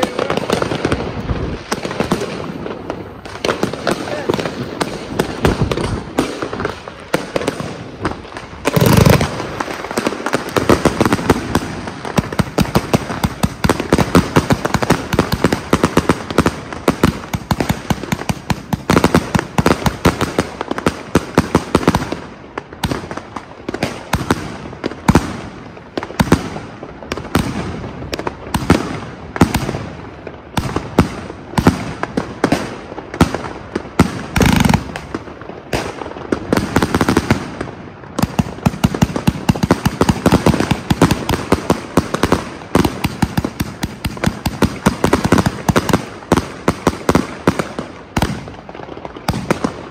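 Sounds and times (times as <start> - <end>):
fireworks cracking and banging: 0.0 - 49.9
heavy firework booms: 0.0 - 49.9.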